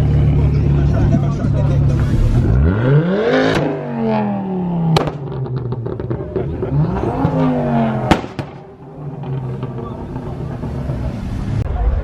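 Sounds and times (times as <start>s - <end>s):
car engine revving: 0.0s - 12.0s
exhaust crack and crackles: 0.0s - 12.0s.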